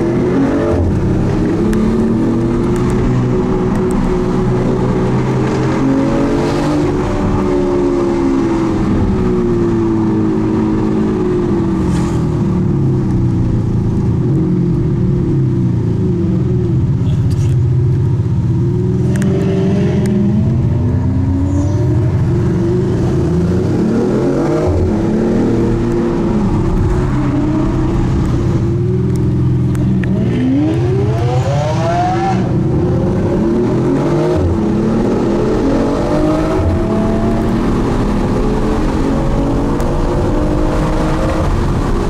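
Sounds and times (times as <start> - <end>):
sports car engines accelerating: 0.0 - 42.0.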